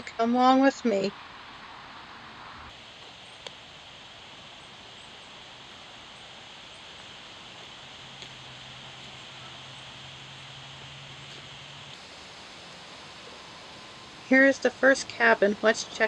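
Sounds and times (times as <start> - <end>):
background hiss: 0.0 - 16.0
low steady hum: 0.0 - 16.0.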